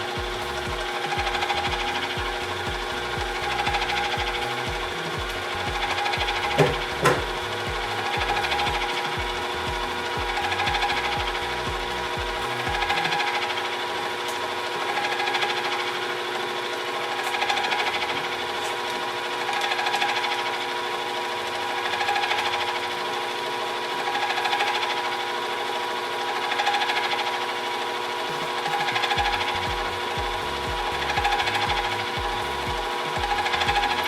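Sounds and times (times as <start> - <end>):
milling machine motor whine: 0.0 - 34.0.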